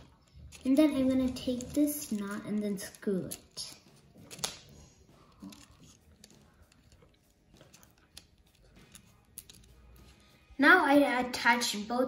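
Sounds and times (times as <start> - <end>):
plastic parts clicking: 0.0 - 9.9.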